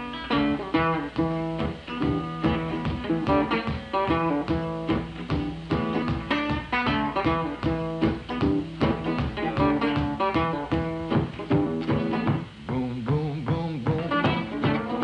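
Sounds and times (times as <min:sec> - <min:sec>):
guitar blues riff: 0:00.0 - 0:15.0.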